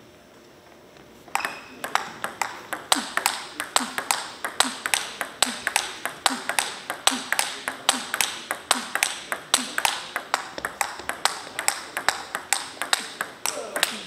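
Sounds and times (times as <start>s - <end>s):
table tennis ball clicking: 1.3s - 14.0s.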